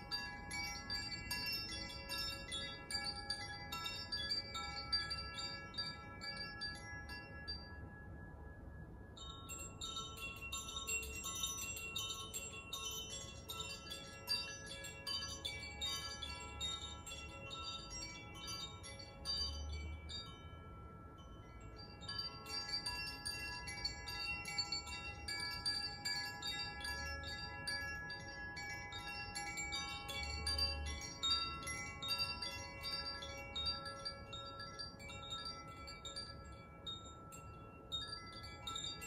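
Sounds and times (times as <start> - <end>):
wind chimes ringing: 0.0 - 39.0.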